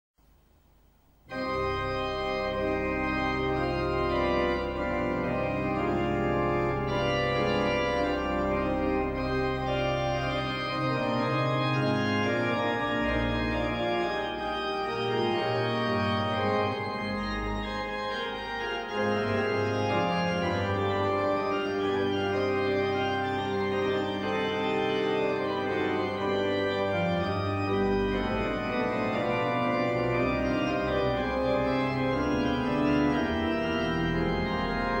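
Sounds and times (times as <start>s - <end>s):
organ music with pedal bass: 1.3s - 35.0s.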